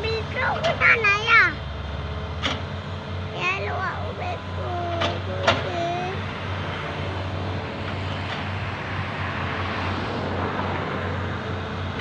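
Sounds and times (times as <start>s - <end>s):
heavy machinery diesel engines droning: 0.0s - 12.0s.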